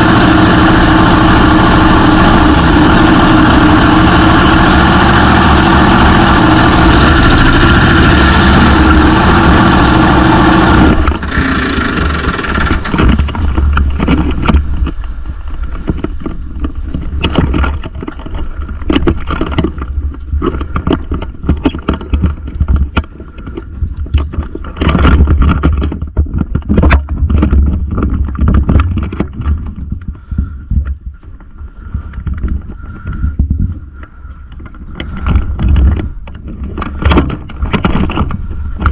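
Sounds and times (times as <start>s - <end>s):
boat engine running loud: 0.0s - 38.9s.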